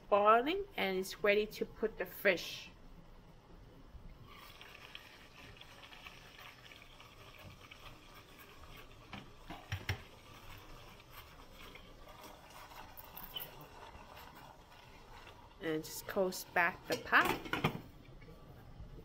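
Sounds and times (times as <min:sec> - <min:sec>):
water boiling faint bubbling: 0:00.0 - 0:19.0.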